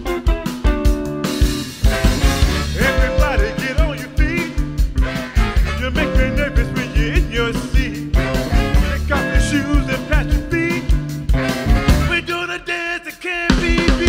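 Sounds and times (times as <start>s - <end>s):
soul band playing: 0.0s - 12.7s
man singing: 2.4s - 14.0s.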